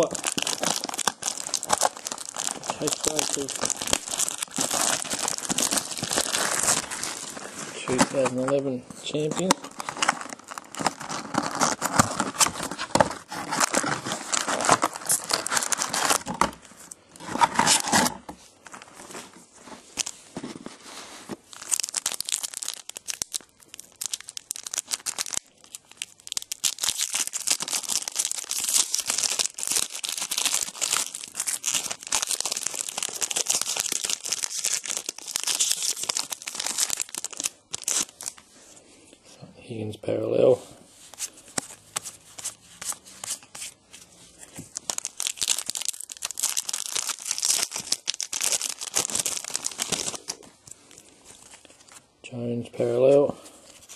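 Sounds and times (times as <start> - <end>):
wrappers tearing and crinkling: 0.0 - 38.4, 44.4 - 52.0.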